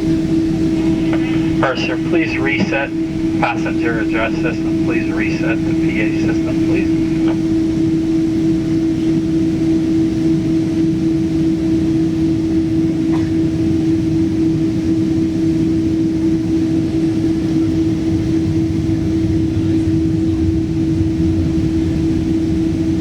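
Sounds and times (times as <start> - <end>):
jet engines humming in cabin: 0.0 - 23.0.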